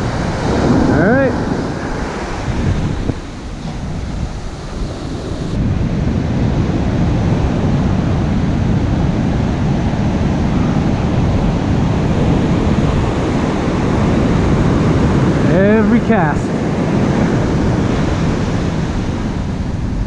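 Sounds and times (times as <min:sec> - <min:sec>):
ocean surf breaking on beach: 0:00.0 - 0:20.0
wind rumbling on microphone: 0:00.0 - 0:20.0.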